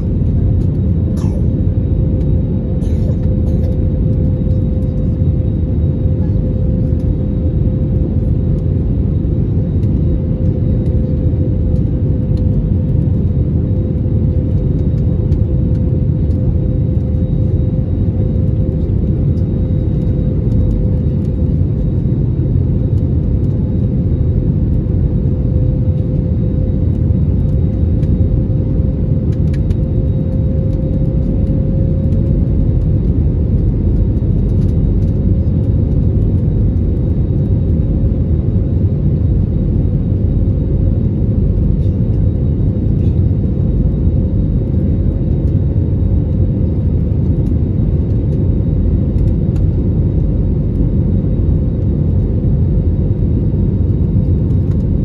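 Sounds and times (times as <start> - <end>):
airflow roar in aircraft cabin: 0.0 - 55.0
jet engine hum: 0.0 - 55.0.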